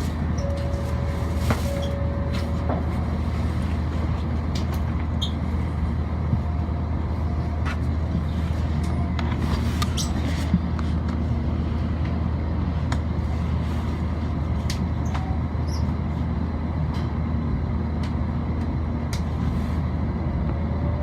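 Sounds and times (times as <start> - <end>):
low hum of platform ambience: 0.0 - 21.0.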